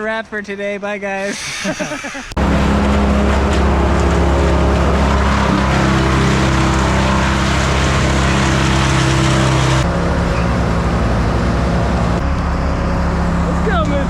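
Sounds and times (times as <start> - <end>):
heavy machinery engine running: 1.3 - 14.0.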